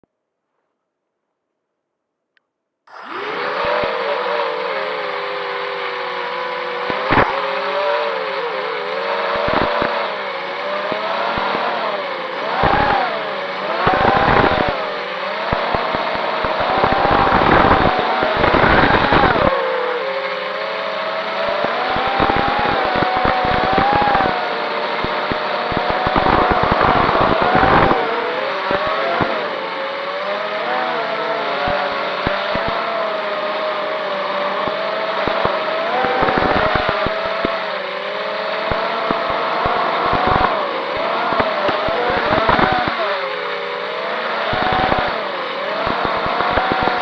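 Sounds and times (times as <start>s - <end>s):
drone motors buzzing: 2.9s - 47.0s.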